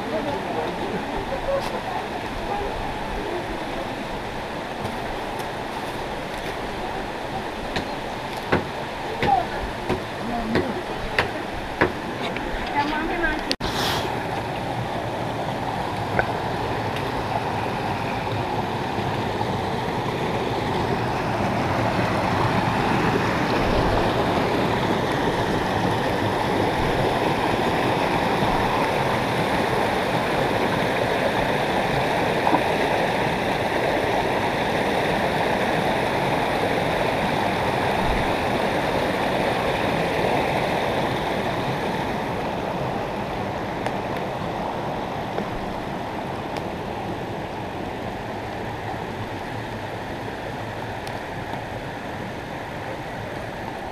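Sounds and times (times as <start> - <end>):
stream gurgling over stones: 0.0 - 53.9.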